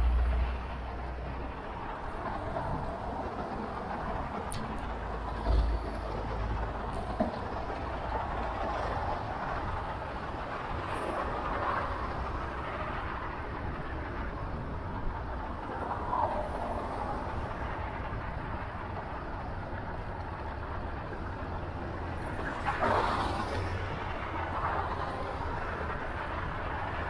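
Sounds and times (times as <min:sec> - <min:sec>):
road and traffic noise: 0:00.0 - 0:27.0.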